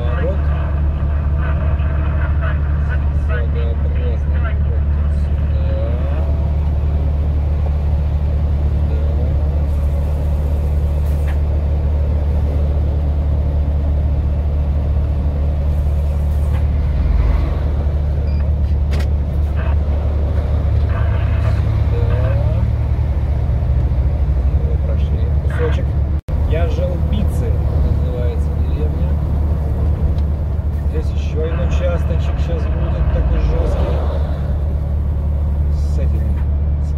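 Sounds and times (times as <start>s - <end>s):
vehicle engine drone: 0.0s - 36.9s.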